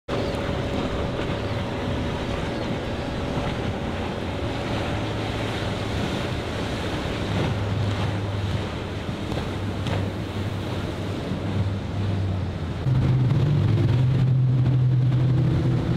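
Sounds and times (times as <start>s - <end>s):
outboard engines running: 0.1s - 15.9s
rushing water: 0.1s - 15.9s
wind noise on microphone: 0.1s - 15.9s.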